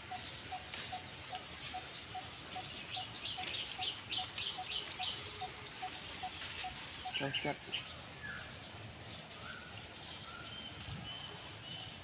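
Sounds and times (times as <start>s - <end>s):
higher bird chirps: 0.0s - 12.0s.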